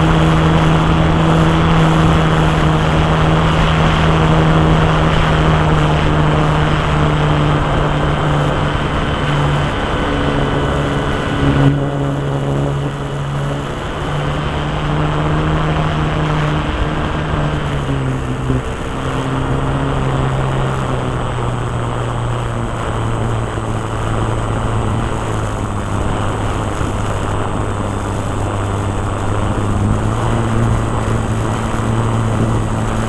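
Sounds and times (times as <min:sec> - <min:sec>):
model airplane engine running: 0:00.0 - 0:33.0.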